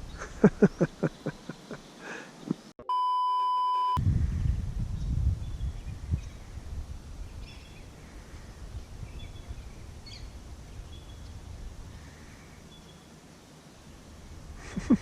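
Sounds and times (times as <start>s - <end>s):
low rumble of wind: 0.0s - 2.0s, 4.0s - 15.0s.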